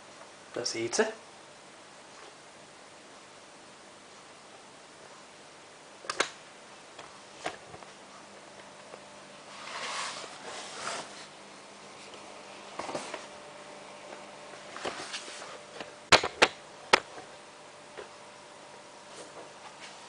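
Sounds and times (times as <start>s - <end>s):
washing machine hum: 0.0s - 20.0s.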